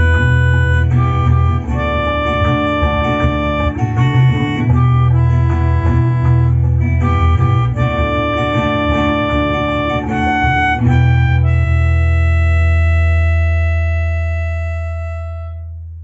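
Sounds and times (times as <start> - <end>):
melodica playing slow melody: 0.0 - 15.8
backing track with bass and keyboards: 0.0 - 16.0.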